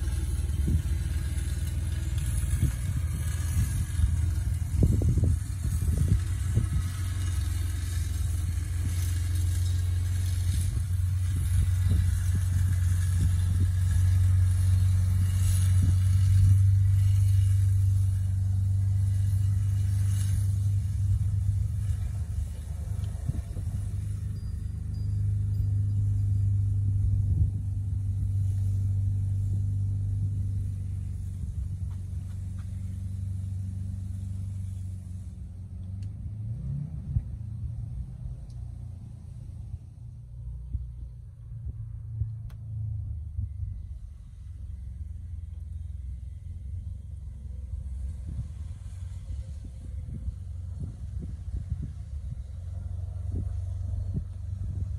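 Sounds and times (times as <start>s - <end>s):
vehicle engine rumble: 0.0s - 54.9s.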